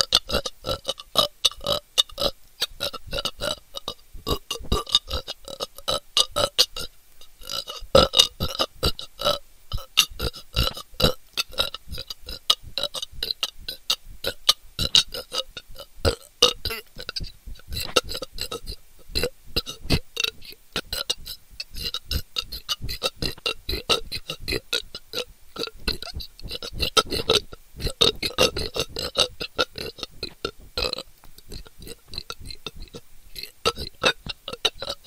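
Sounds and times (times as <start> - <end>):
person burping: 0.0 - 35.0.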